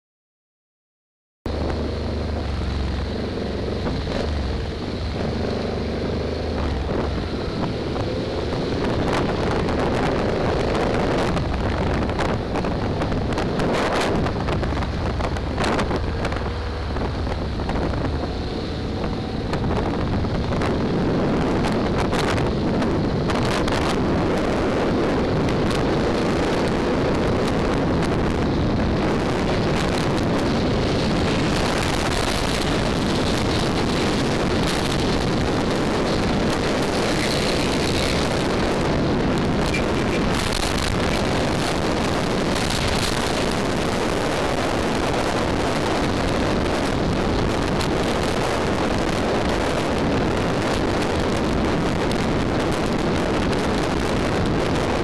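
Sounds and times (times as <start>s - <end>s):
motorcycle engine running: 1.5s - 55.0s
wind buffeting microphone: 1.5s - 55.0s.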